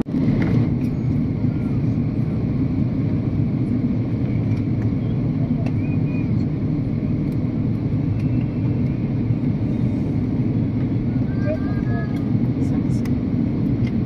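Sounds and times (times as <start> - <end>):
aircraft cabin engine rumble: 0.0 - 14.0
airflow noise: 0.1 - 14.0.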